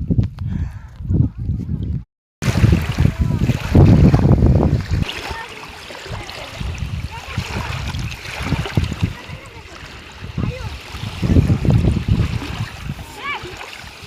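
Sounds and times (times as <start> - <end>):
wind rumbling on microphone: 0.0 - 14.0
river water flowing: 2.4 - 14.0.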